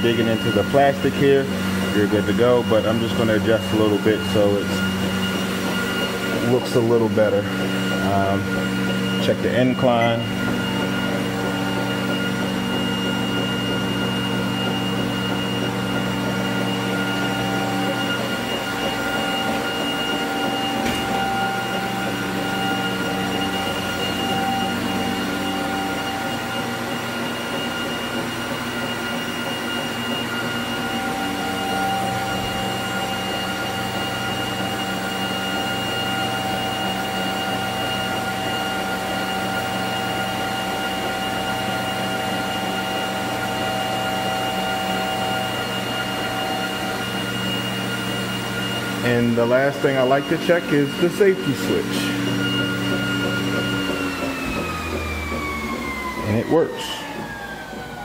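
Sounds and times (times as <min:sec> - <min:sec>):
treadmill motor and belt whine: 0:00.0 - 0:58.0.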